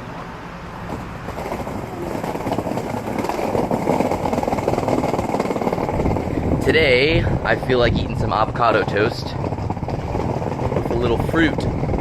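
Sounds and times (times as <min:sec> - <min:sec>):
skateboard wheels rolling on pavement: 0:00.0 - 0:12.0.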